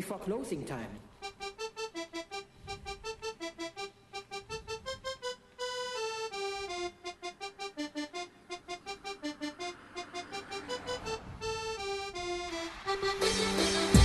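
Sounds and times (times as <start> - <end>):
quick melody of detached notes: 1.0 - 14.0.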